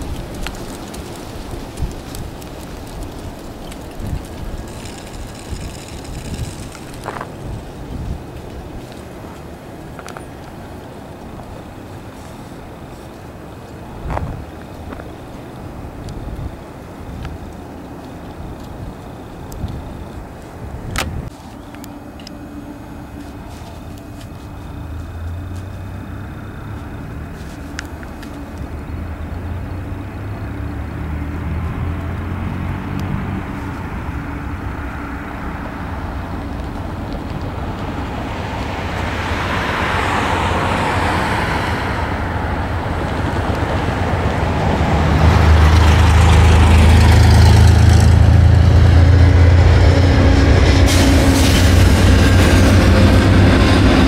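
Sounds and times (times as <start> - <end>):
diesel locomotive engine rumble: 0.0 - 54.0
train rail noise: 0.0 - 54.0.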